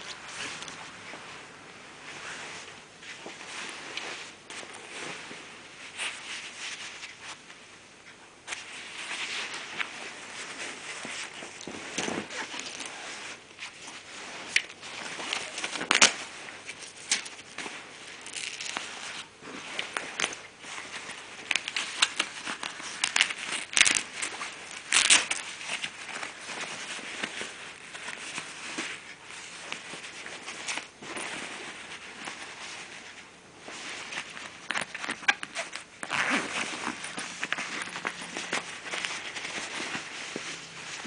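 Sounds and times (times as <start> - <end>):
waterproof fabric rustling: 0.0 - 7.8, 8.4 - 41.0.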